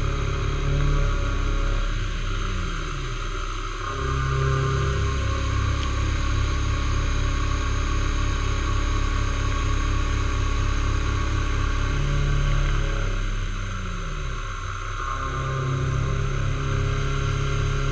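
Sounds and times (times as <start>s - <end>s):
high steady whine: 0.0s - 17.9s
milling machine motor hum: 0.0s - 17.9s.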